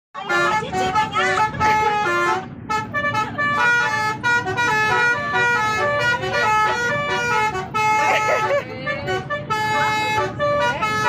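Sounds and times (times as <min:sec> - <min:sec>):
musical bus horn tune: 0:00.2 - 0:11.0.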